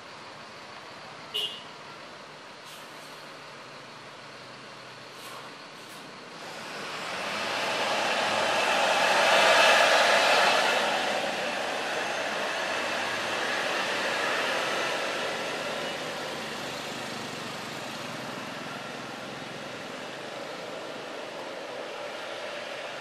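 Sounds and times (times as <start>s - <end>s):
bus diesel engine passing: 0.0s - 23.0s.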